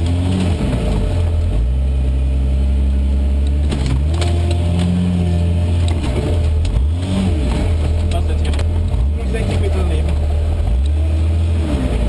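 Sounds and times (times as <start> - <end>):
vehicle engine under load: 0.0 - 12.0.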